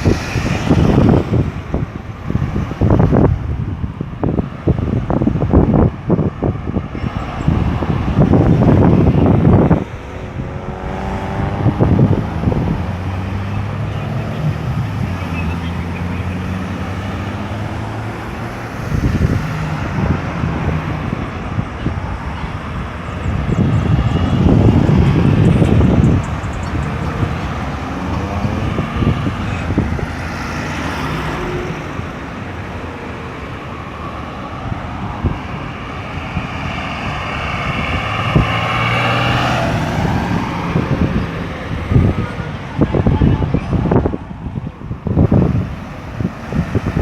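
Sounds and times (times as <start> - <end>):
vehicle passing close: 0.0 - 3.6, 4.2 - 47.0
vehicles passing: 0.0 - 47.0.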